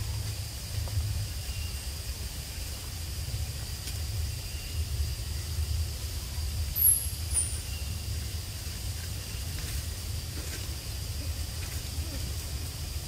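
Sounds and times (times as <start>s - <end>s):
steady low rumble: 0.0s - 13.0s
thin high insect drone: 0.0s - 13.0s.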